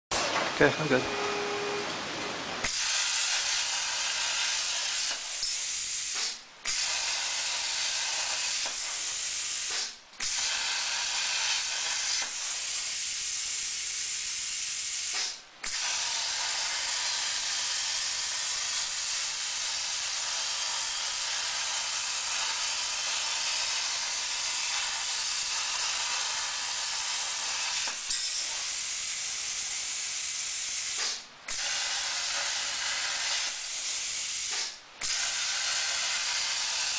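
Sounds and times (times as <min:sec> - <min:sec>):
plasma torch hissing: 0:02.6 - 0:36.9.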